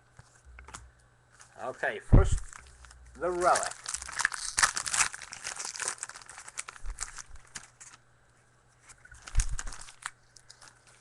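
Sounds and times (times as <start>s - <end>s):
card pack wrapper crinkling: 1.4s - 8.0s, 8.8s - 11.0s.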